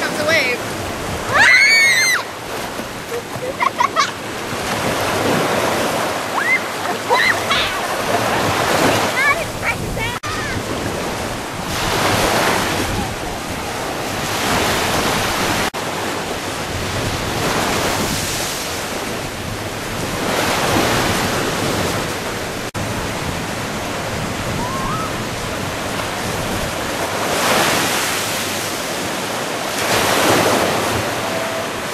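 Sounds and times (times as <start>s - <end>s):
small waves washing up a beach: 0.0s - 31.9s.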